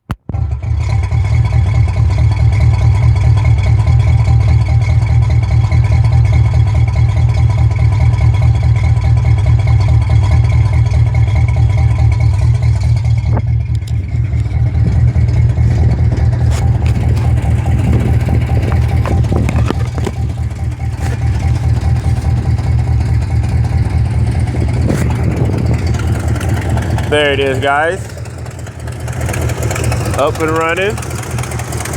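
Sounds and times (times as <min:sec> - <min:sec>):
car engine deep rumble: 0:00.0 - 0:31.9.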